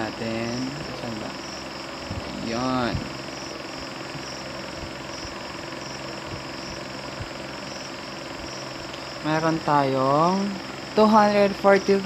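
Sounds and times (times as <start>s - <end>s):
crickets chirping: 0.0s - 12.0s
low steady hum: 0.0s - 12.0s.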